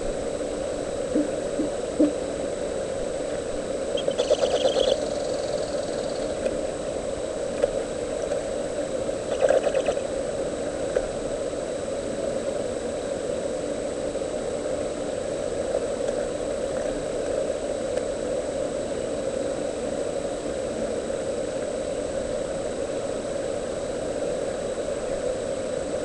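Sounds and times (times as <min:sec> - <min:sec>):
high whine: 0:00.0 - 0:26.0
low droning hum: 0:00.0 - 0:26.0.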